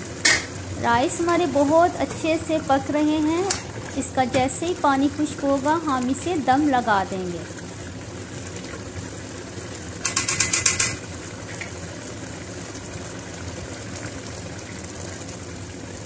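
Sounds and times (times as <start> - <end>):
pot simmering on stove: 0.0 - 16.0.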